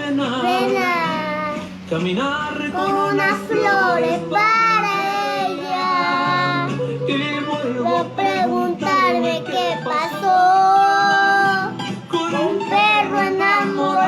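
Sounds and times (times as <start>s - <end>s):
backing music: 0.0s - 14.0s
child singing: 0.1s - 1.8s, 2.7s - 6.8s, 7.8s - 14.0s.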